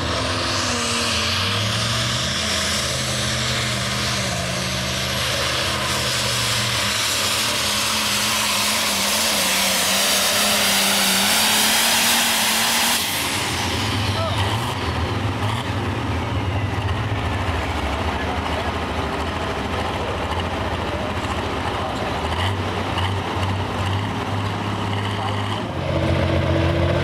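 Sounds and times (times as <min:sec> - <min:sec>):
tractor engine under full power: 0:00.0 - 0:27.0.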